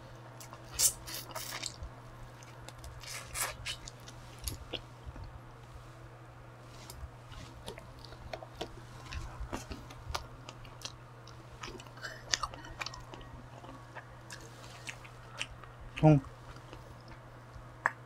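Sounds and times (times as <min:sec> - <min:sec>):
steady low hum: 0:00.0 - 0:18.0
chewing with wet mouth clicks: 0:00.4 - 0:05.4, 0:07.6 - 0:18.0.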